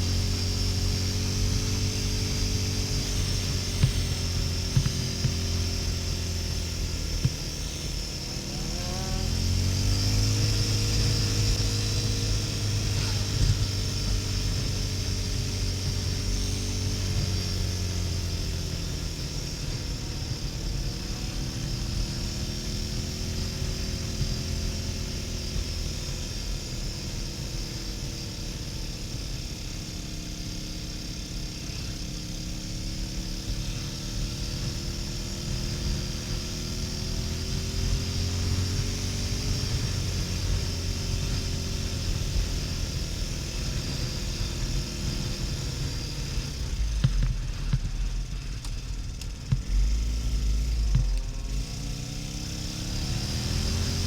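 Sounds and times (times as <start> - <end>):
wind and road rush: 0.0 - 28.2, 33.0 - 54.0
motorcycle engine running: 0.0 - 54.0.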